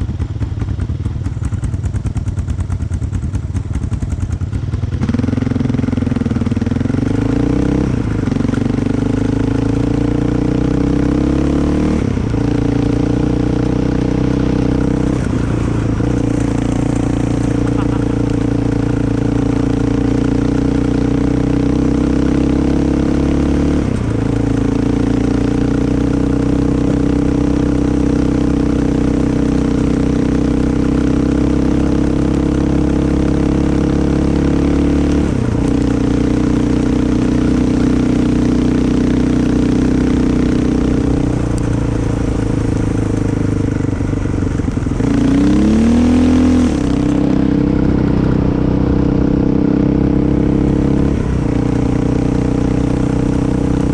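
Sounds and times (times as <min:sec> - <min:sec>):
off-road vehicle engine running: 0:00.0 - 0:53.9.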